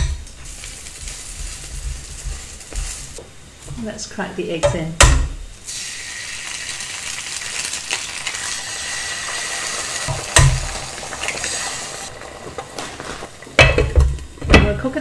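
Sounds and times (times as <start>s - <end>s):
eggs sizzling in frying pan: 0.0s - 15.0s.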